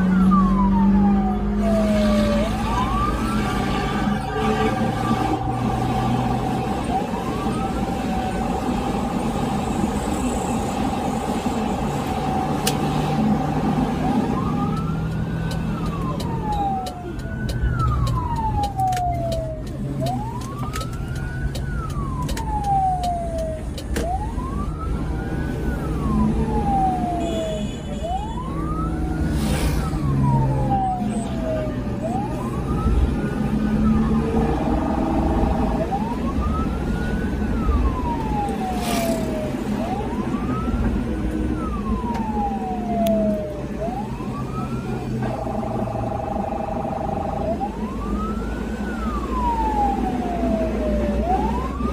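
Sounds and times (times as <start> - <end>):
ambulance siren wailing: 0.0 - 51.9
engine and road noise: 0.0 - 51.9.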